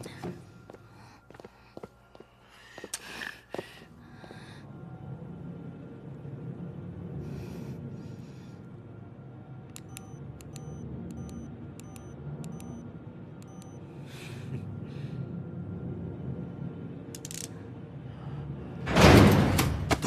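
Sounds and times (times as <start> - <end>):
low ominous music: 0.0 - 20.0.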